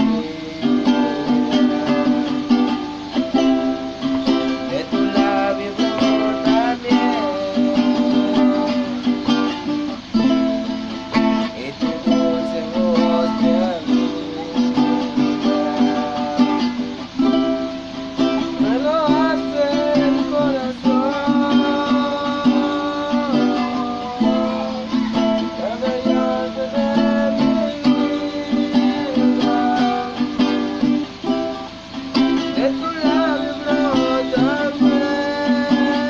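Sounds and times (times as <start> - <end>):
acoustic plucked-string music: 0.0 - 36.0.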